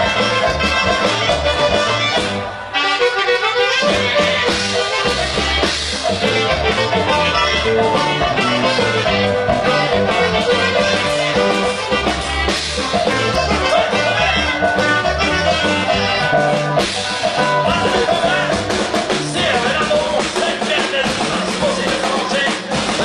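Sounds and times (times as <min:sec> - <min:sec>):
band playing lively instrumental: 0:00.0 - 0:23.0
bass: 0:00.0 - 0:23.0.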